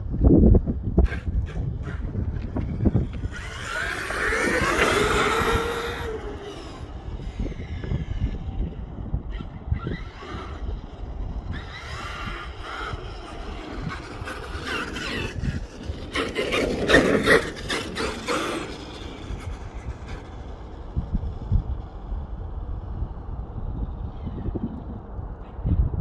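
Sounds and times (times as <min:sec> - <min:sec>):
rc truck tyres scraping ground: 0:00.0 - 0:25.7.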